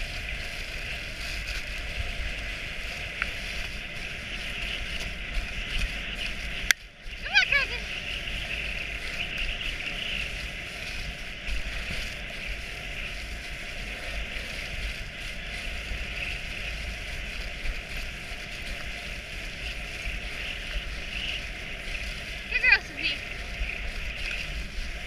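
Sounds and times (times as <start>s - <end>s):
sled runners hissing on snow: 0.0s - 25.0s
wind rumble on microphone: 0.0s - 25.0s.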